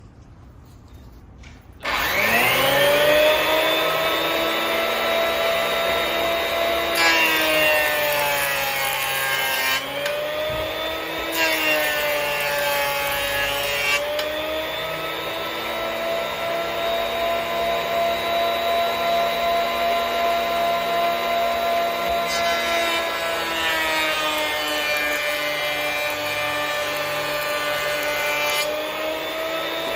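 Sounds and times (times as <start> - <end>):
boards rushing through cutter: 1.8 - 29.9
thickness planer motor whining: 1.8 - 29.9.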